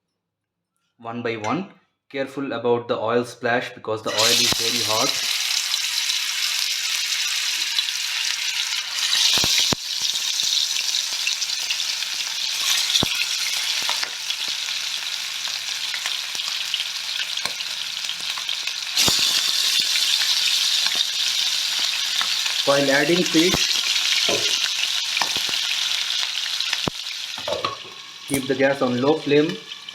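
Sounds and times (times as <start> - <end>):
fish sizzling in oil: 4.1 - 29.9.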